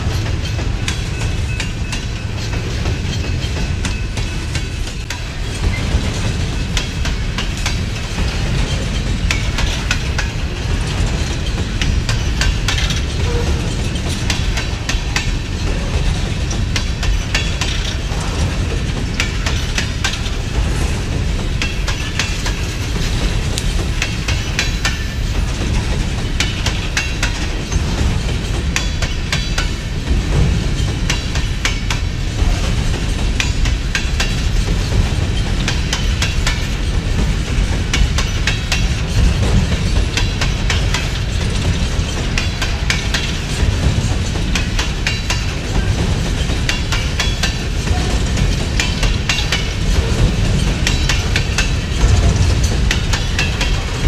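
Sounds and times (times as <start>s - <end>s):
low rumble of train: 0.0s - 54.0s
train wheels clicking over rail joints: 0.0s - 54.0s.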